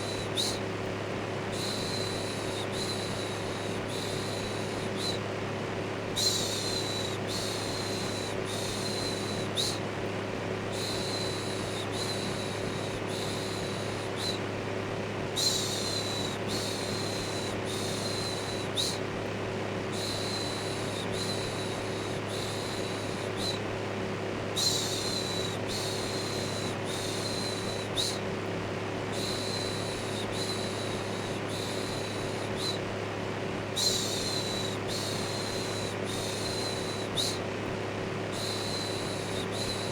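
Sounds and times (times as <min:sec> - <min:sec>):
electric fan whirring: 0:00.0 - 0:39.9.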